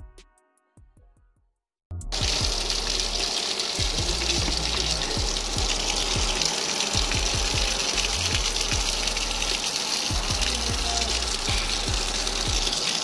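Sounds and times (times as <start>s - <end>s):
music with thudding beat: 0.0s - 12.9s
water gushing and splashing: 2.1s - 13.0s.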